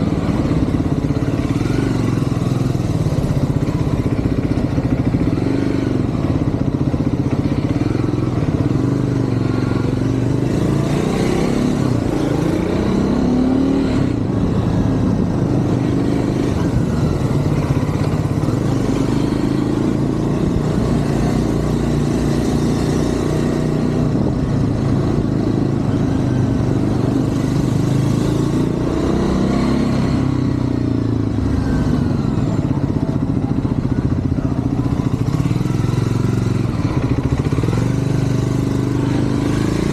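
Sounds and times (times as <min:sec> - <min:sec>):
motorcycle engine accelerating: 0:00.0 - 0:39.9
traffic noise: 0:00.0 - 0:39.9.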